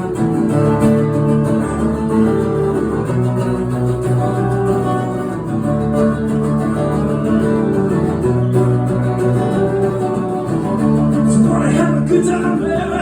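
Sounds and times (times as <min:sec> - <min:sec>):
acoustic guitar playing chords: 0:00.0 - 0:13.0.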